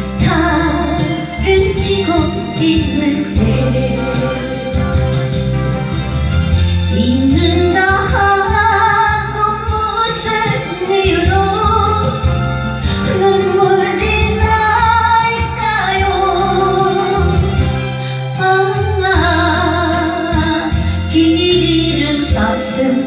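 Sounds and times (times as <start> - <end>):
woman singing a ballad: 0.0 - 5.3, 6.9 - 23.0
instrumental backing: 0.0 - 23.0.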